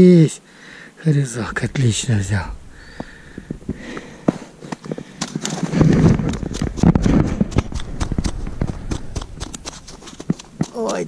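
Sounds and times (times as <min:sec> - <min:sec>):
low rustling: 0:01.3 - 0:10.9
crunching on crusty snow: 0:01.5 - 0:11.0.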